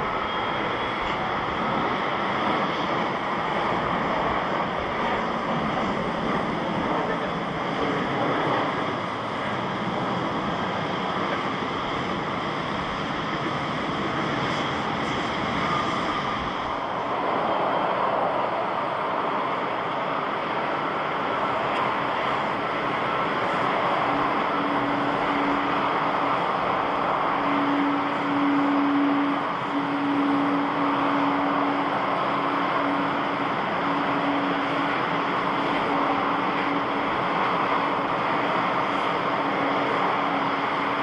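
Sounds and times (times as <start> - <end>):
jet engines roaring: 0.0 - 41.0.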